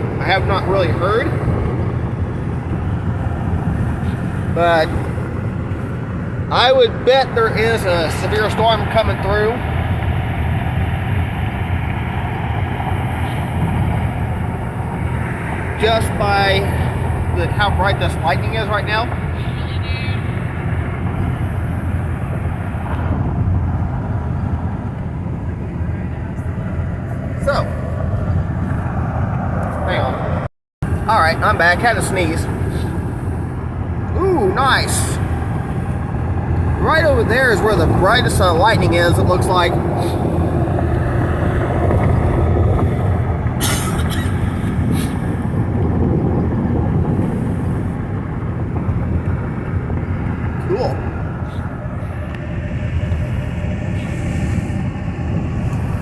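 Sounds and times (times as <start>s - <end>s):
car interior road and engine rumble: 0.0s - 56.0s.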